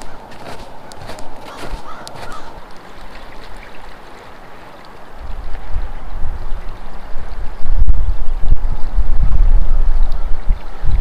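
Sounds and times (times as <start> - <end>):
creek water running: 0.0 - 11.0.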